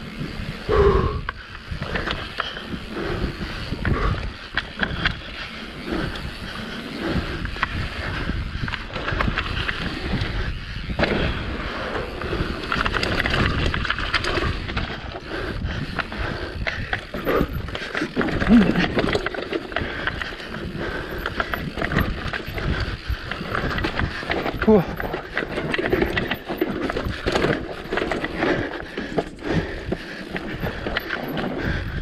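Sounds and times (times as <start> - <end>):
bike clattering over bumps: 0.0 - 32.0
bike tyres rolling over dirt: 0.0 - 32.0.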